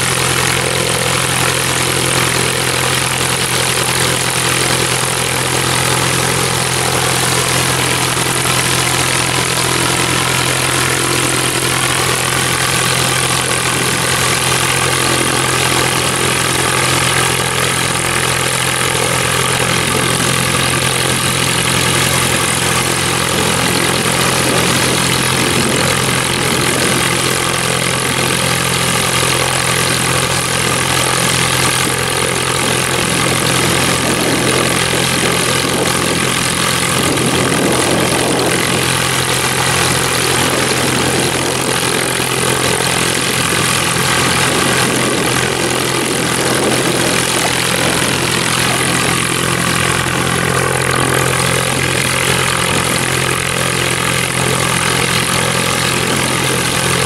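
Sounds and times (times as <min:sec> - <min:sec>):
aircraft piston engine idling: 0:00.0 - 0:57.0.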